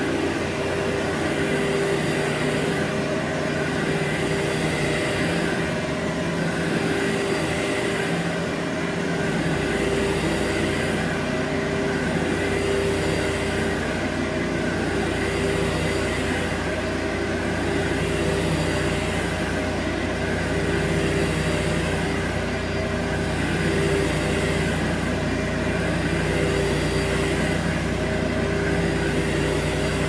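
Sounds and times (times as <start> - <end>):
cleaning machine motor whine: 0.0 - 30.0.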